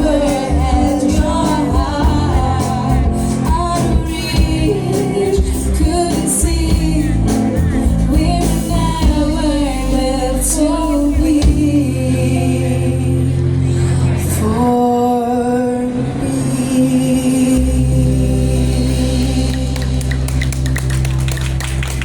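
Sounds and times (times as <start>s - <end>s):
woman singing: 0.0s - 13.5s, 14.2s - 20.4s
live band playing pop song: 0.0s - 15.6s, 17.3s - 22.0s.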